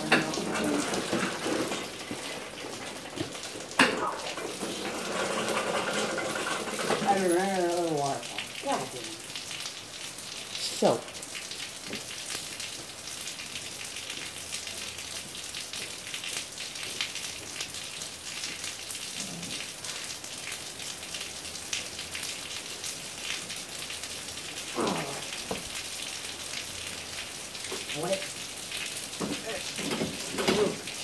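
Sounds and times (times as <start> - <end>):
heavy rain on pavement: 0.0 - 31.0.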